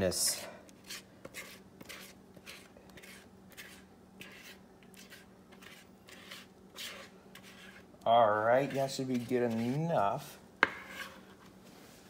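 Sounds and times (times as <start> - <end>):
faint steady hum: 0.0 - 12.0
spatula scraping plastic bowl: 0.8 - 11.5.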